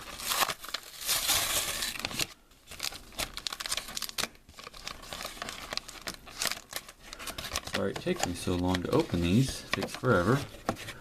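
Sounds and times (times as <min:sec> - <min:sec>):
plastic blister pack crinkling: 0:00.0 - 0:11.0
plastic tearing: 0:00.0 - 0:11.0.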